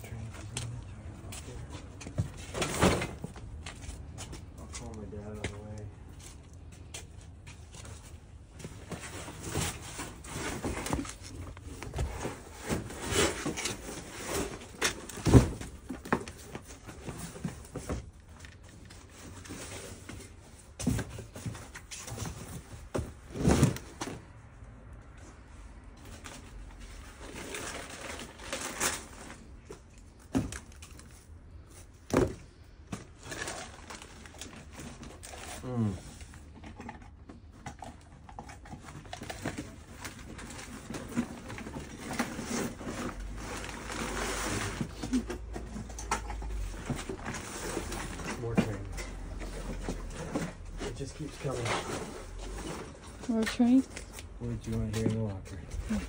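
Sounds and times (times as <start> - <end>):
cardboard rustling and scraping: 7.2 - 24.3, 26.0 - 56.0.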